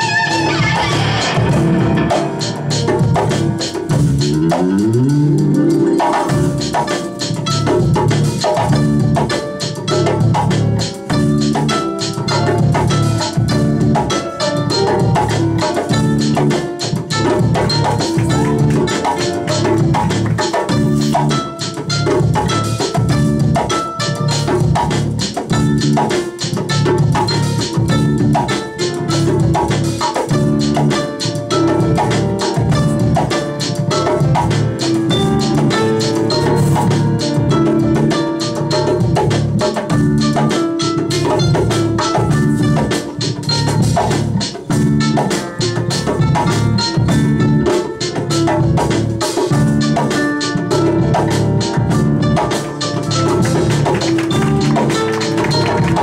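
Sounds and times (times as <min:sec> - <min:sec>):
hand drums playing: 0:00.0 - 0:56.0
live band music: 0:00.0 - 0:56.0
sustained melodic notes: 0:00.0 - 0:56.0.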